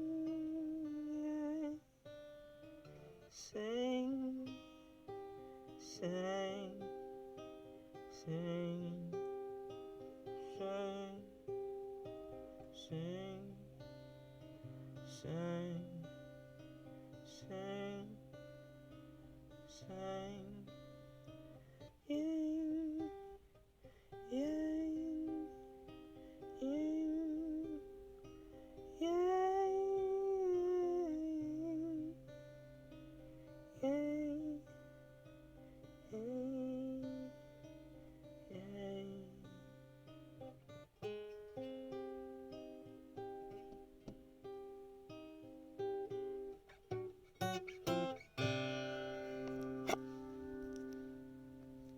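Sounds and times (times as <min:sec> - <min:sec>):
acoustic guitar: 0:00.0 - 0:51.9.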